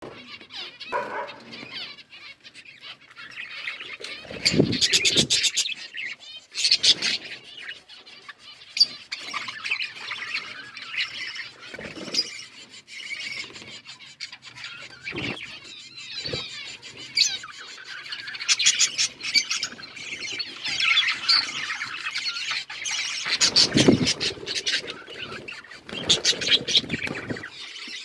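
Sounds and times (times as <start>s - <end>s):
parrots chattering and chirping: 0.0s - 28.0s.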